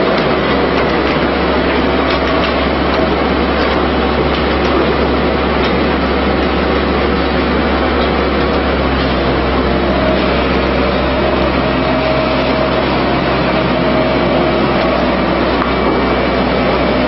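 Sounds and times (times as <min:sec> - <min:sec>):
machinery running loudly: 0:00.0 - 0:17.0.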